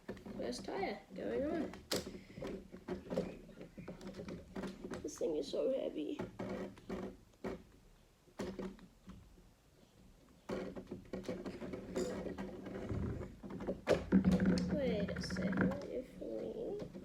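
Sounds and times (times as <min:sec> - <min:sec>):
plastic parts clicking and knocking: 0:00.0 - 0:09.5, 0:10.3 - 0:17.0.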